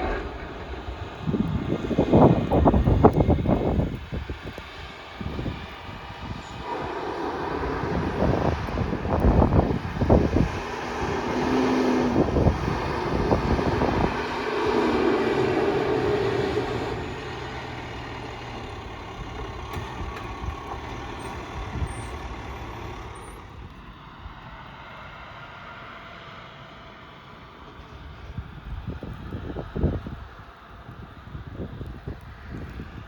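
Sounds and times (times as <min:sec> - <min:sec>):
heavy vehicle engine running: 0:00.0 - 0:31.0.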